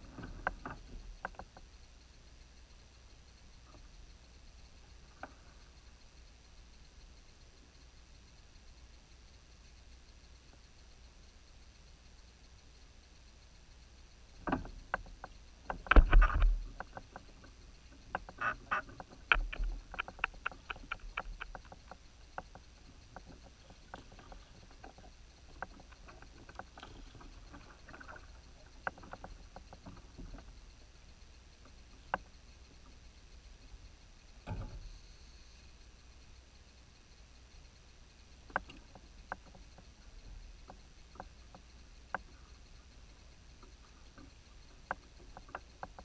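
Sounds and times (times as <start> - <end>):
fishing reel ticking: 0.4 - 46.0.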